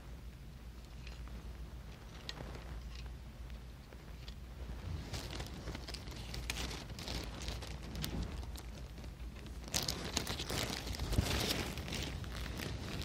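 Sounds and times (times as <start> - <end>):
low steady hum: 0.0 - 13.0
rustling: 0.0 - 13.0.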